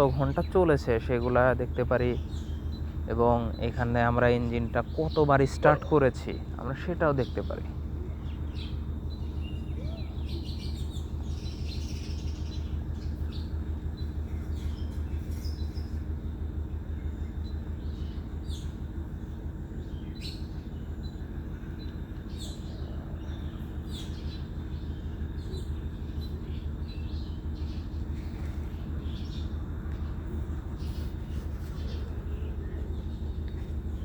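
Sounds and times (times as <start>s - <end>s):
diesel generator humming: 0.0s - 34.0s
small birds chirping: 0.0s - 34.0s.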